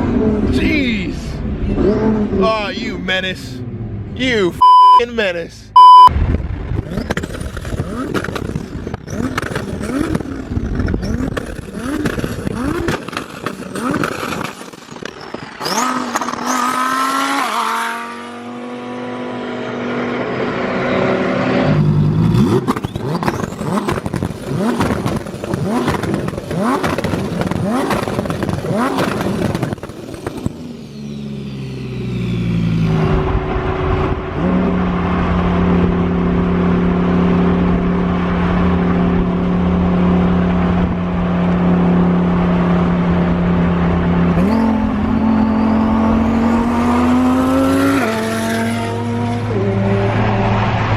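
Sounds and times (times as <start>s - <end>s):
car engine under hard throttle: 0.0s - 2.8s, 5.8s - 50.9s.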